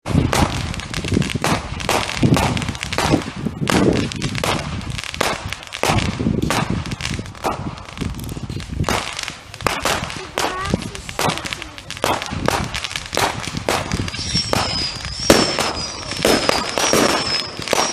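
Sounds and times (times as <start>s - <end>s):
fireworks bangs and crackles: 0.0s - 17.9s
fireworks booms: 0.0s - 17.9s.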